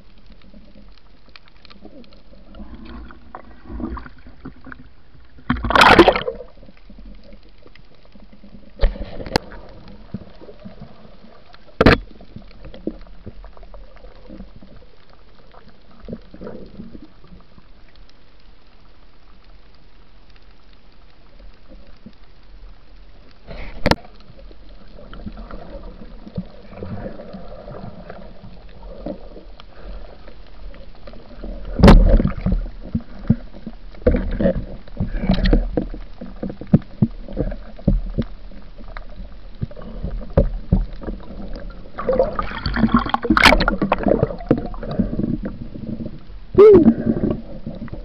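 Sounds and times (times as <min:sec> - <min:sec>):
muffled underwater noise: 0:00.0 - 0:48.0.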